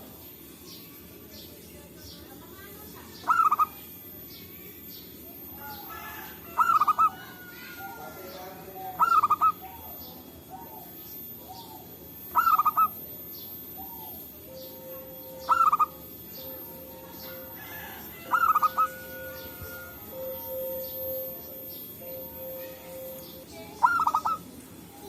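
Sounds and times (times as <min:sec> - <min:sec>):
faint bird calls: 0:02.9 - 0:25.0
dove cooing: 0:03.1 - 0:04.2, 0:05.1 - 0:25.0.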